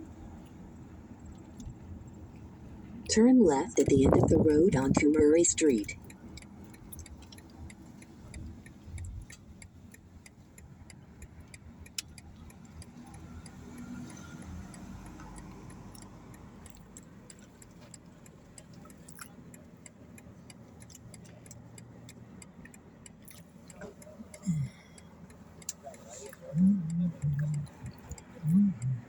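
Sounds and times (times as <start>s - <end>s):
engine and road rumble: 0.0s - 29.0s
turn signal ticking: 0.0s - 29.0s.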